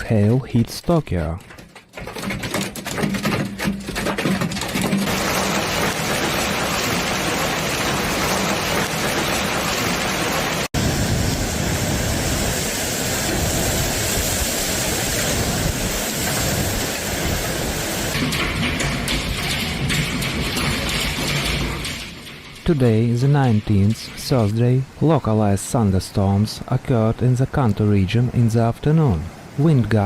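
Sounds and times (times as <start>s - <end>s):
heavy rain pouring: 2.0s - 30.0s.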